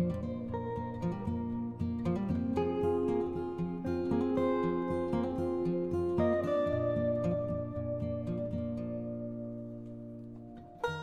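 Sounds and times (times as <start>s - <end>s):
acoustic guitar notes: 0.0s - 11.0s.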